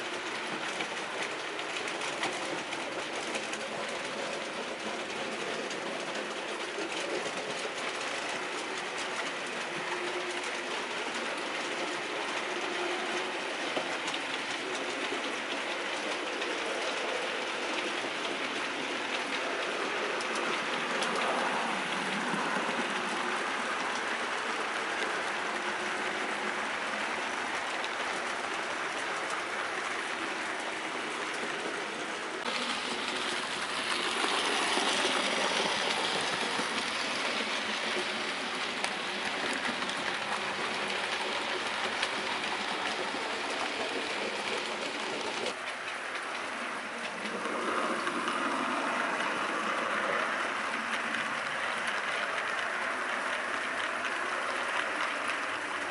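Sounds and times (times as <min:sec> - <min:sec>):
model train motor whirring: 0:00.0 - 0:55.9
wheels rolling on track: 0:00.0 - 0:55.9.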